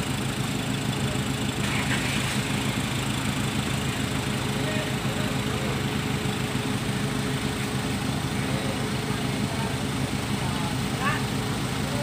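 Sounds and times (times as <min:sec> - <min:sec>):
engines droning: 0:00.0 - 0:12.0.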